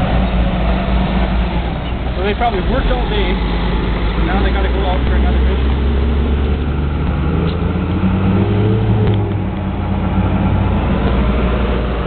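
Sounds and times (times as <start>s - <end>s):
diesel truck engine driving past: 0.0s - 12.0s.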